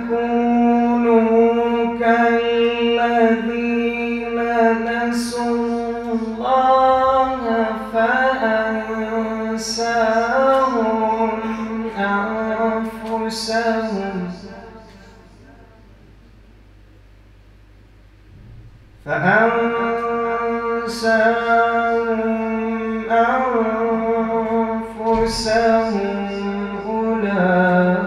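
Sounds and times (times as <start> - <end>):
man chanting melodically: 0.0 - 16.1, 19.0 - 28.0.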